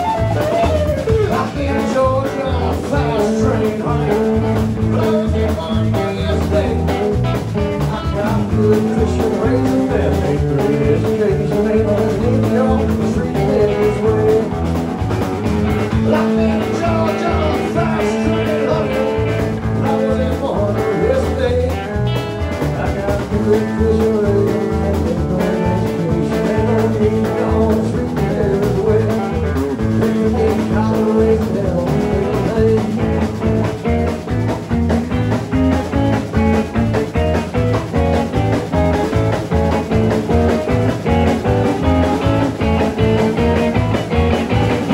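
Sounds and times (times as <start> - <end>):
country-rock band playing: 0.0 - 44.9.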